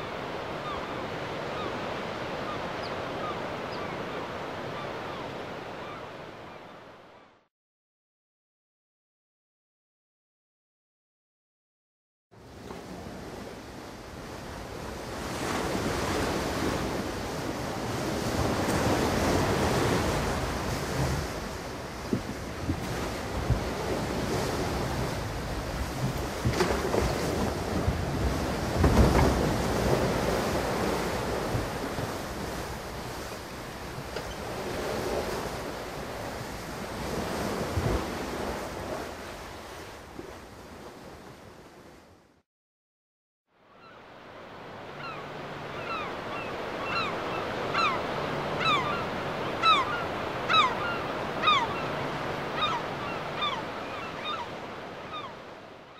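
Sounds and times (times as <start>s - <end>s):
ocean waves washing: 0.0s - 6.8s, 12.4s - 42.2s, 44.0s - 55.9s
wind: 0.0s - 7.5s, 12.3s - 42.4s, 43.5s - 55.9s.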